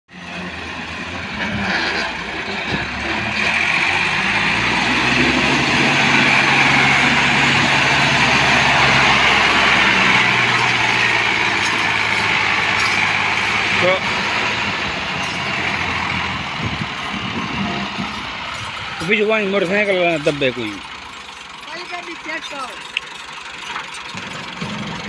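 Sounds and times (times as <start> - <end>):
tractor engine running hard: 0.1 - 25.0.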